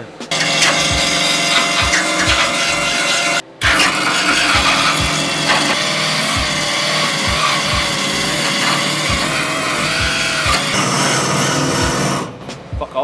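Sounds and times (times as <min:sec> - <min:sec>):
die grinder grinding steel: 0:00.3 - 0:12.4.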